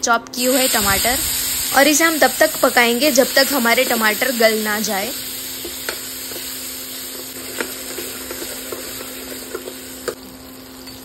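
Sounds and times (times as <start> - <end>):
tomatoes sizzling in hot oil: 0.4 - 11.0.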